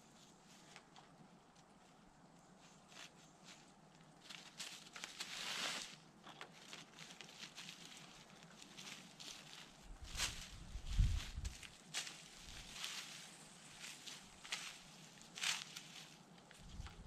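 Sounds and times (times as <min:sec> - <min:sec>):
hands scraping soil and dry leaves: 0:00.0 - 0:17.0.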